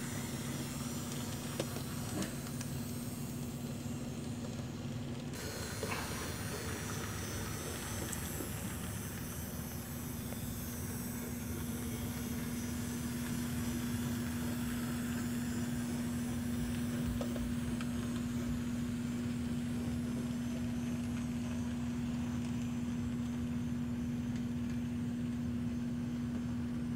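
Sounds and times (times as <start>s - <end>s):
model train wheels rumbling: 0.0s - 23.1s
electric motor hum: 0.0s - 24.8s.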